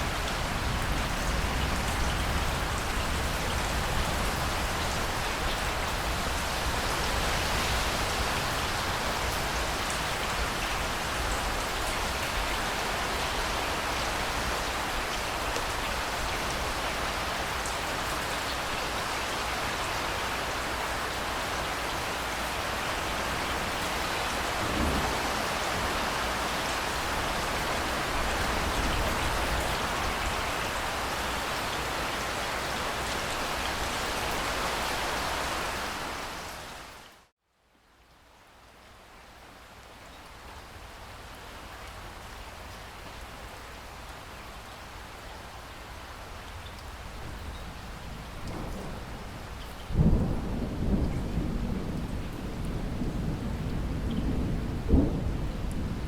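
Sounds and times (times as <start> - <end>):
rain pattering: 0.0 - 37.3, 37.9 - 56.0.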